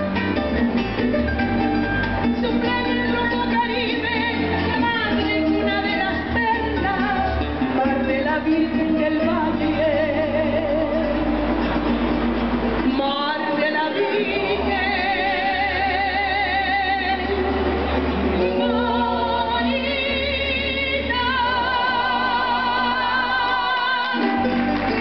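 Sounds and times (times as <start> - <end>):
amplified backing track: 0.0 - 25.0
woman singing into microphone: 2.4 - 11.5, 12.8 - 25.0.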